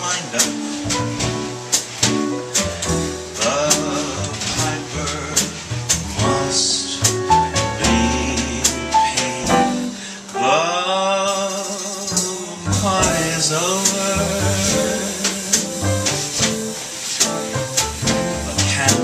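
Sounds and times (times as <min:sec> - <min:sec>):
man singing swing song: 0:00.0 - 0:19.0
piano: 0:00.0 - 0:19.0
percussion hits: 0:00.4 - 0:10.1, 0:12.1 - 0:19.0.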